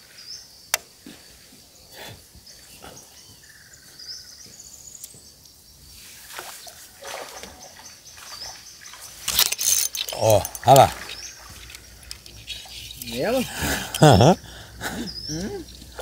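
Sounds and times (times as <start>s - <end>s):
birds chirping: 0.0s - 16.0s
high insect drone: 0.0s - 16.0s.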